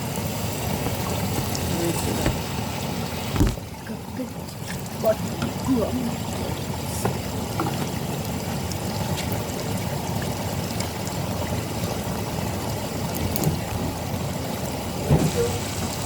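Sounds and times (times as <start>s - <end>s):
water pouring from a hose into tub: 0.0s - 16.0s.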